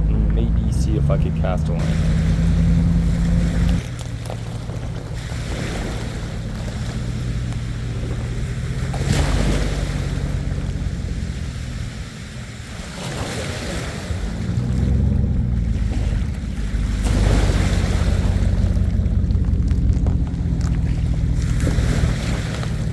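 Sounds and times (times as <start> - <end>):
pickup engine droning: 0.0 - 22.9
rushes of noise: 0.0 - 22.9.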